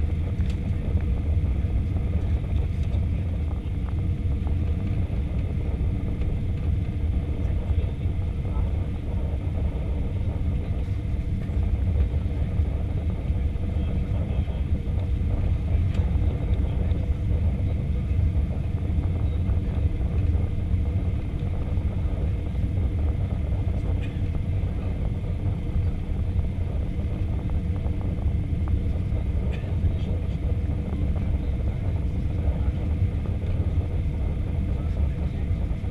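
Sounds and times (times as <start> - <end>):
faint steady hum: 0.0 - 35.9
low rumble of engines and airflow: 0.0 - 35.9.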